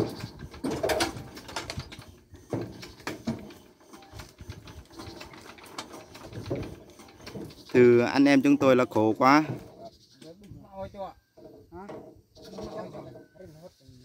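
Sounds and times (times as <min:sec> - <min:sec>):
metal knocks and clanks: 0:00.0 - 0:10.3, 0:11.3 - 0:13.4.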